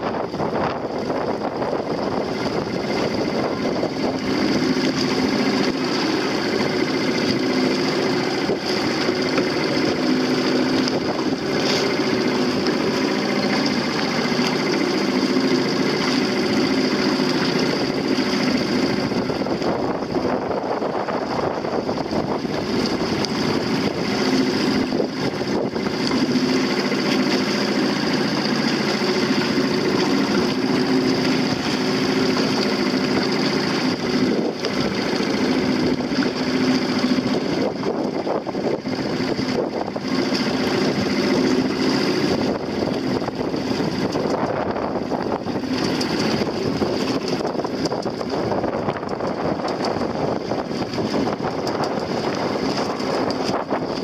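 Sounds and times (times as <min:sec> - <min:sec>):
motorboat engine humming: 0:00.0 - 0:54.0
wind noise on microphone: 0:00.0 - 0:54.0.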